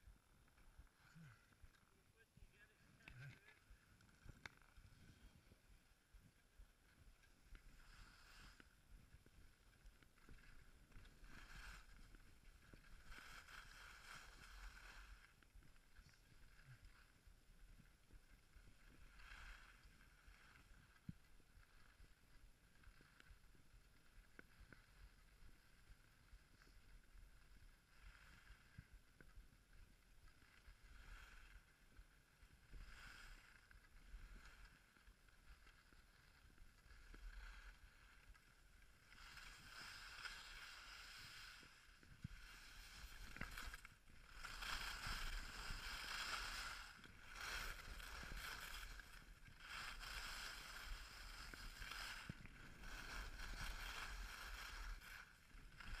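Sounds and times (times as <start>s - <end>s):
skis sliding over snow: 0.0s - 56.0s.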